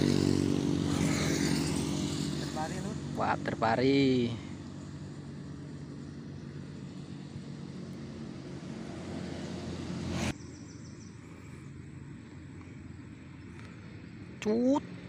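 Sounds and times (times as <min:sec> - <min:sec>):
engine hum: 0:00.0 - 0:15.0
outdoor background noise: 0:00.0 - 0:15.0.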